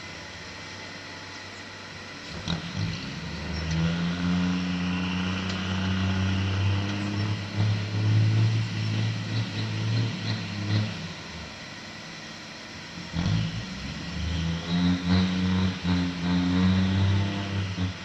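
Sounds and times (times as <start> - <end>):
heavy diesel engine revving: 2.1 - 11.6, 12.9 - 18.0.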